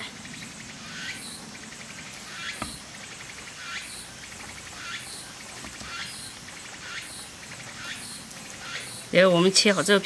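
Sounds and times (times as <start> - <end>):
chirping animal call: 0.0 - 9.4.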